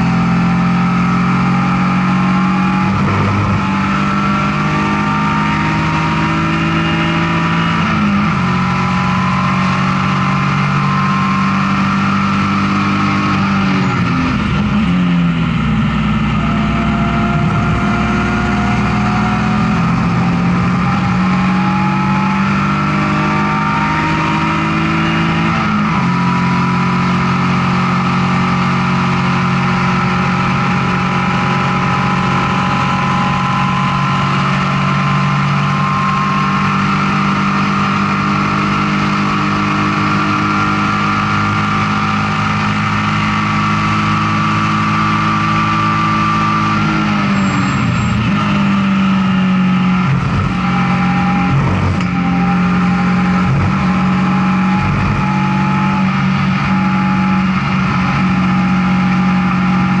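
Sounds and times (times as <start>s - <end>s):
race car engine at high revs: 0.0s - 60.0s.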